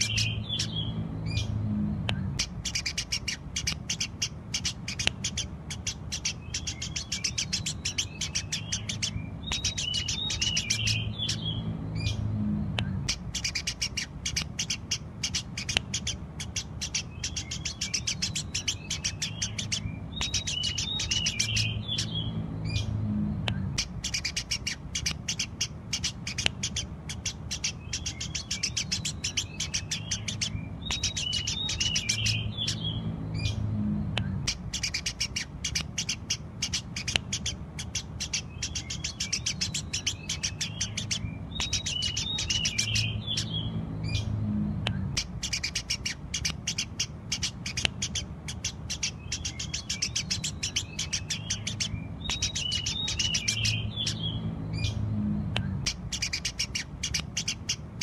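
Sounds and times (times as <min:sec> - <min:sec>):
sparrow chirping: 0:00.0 - 0:58.0
steady low rumble: 0:00.0 - 0:58.0.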